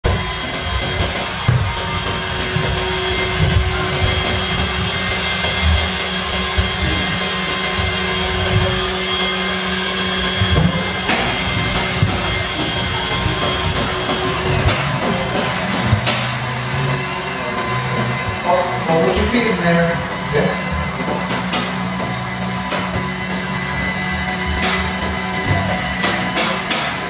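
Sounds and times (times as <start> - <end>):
robot vacuum whirring: 0.1 - 26.4.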